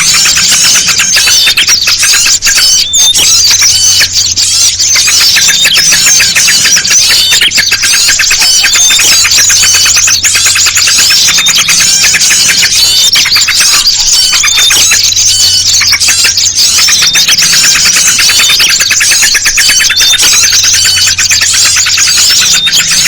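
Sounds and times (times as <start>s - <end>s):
small birds chirping and trilling: 0.0s - 23.0s.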